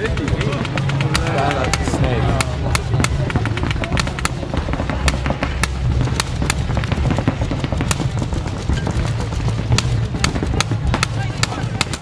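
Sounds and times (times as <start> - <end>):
low rumble: 0.0 - 12.0
paintball markers popping: 0.0 - 12.0.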